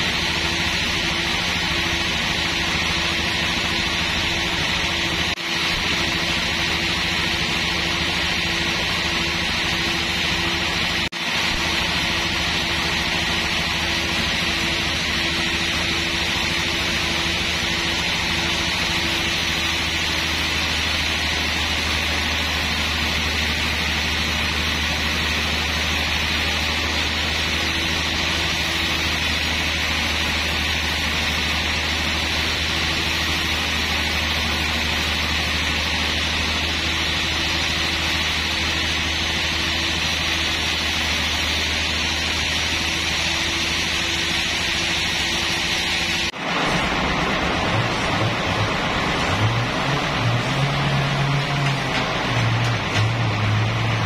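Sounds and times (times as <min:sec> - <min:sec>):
band sawmill humming: 0:00.0 - 0:54.0.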